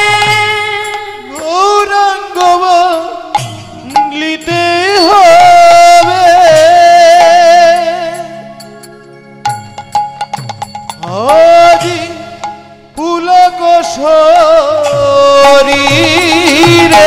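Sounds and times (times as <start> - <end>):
drum accompaniment: 0.0 - 17.0.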